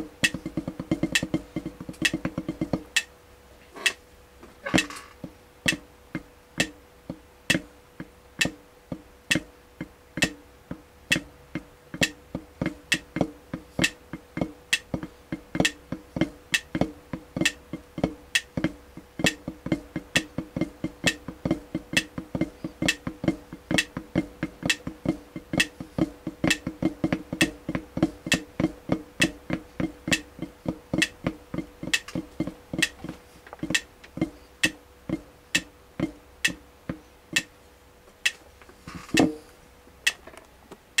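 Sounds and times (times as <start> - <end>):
drumstick strokes on drum head: 0.0 - 3.1, 3.7 - 37.5, 38.1 - 40.2.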